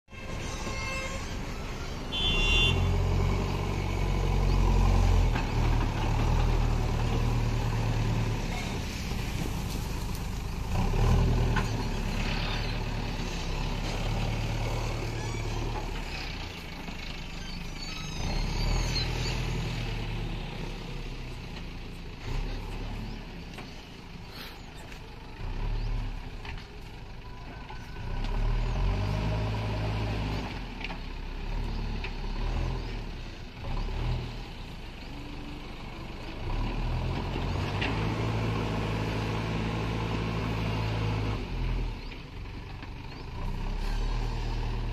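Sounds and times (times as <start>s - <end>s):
diesel engine revving: 0.2s - 44.9s.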